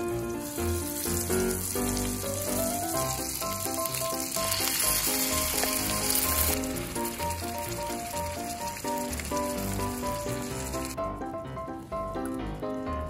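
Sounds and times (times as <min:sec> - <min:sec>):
meat sizzling in a skillet: 0:00.0 - 0:11.0
light plucked background music: 0:00.0 - 0:13.0.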